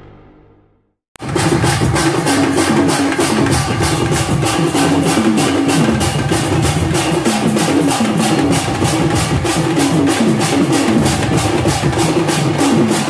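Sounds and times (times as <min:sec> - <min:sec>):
drums and cymbals beat: 0:01.2 - 0:13.0.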